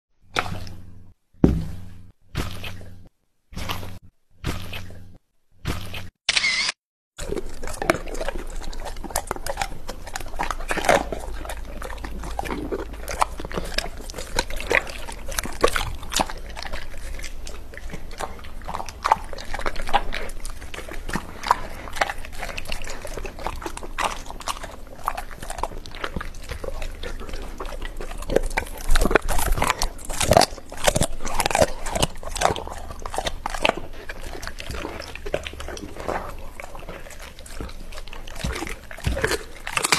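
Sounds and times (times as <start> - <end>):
dog chewing and slurping: 2.4 - 6.1, 7.2 - 39.9.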